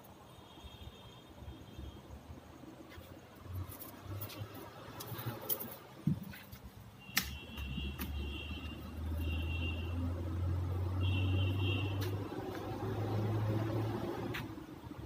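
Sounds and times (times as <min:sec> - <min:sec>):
vehicle engine hum: 0:02.7 - 0:15.0.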